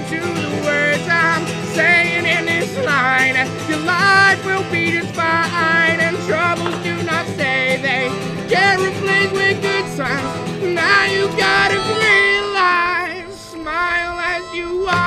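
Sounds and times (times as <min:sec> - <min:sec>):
sustained guitar and bass: 0:00.0 - 0:15.0.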